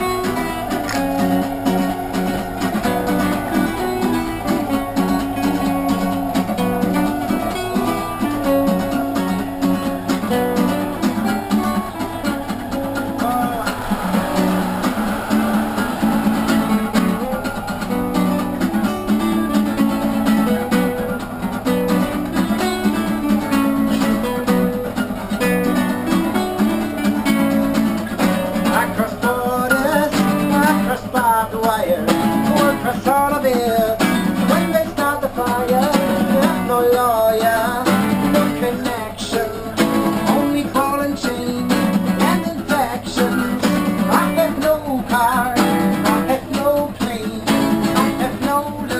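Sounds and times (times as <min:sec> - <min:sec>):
man singing: 0:00.0 - 0:24.3, 0:28.5 - 0:48.9
acoustic guitars strumming: 0:00.0 - 0:48.9.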